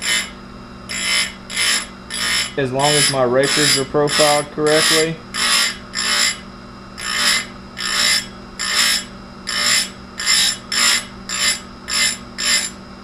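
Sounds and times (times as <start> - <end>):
steady low hum: 0.0 - 13.0
file rasping on chainsaw chain: 0.9 - 6.4, 7.0 - 12.8.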